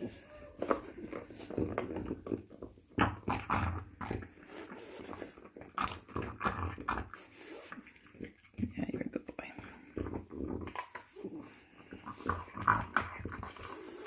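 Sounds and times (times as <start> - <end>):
dog gnawing on bone: 0.4 - 9.0, 9.8 - 14.0.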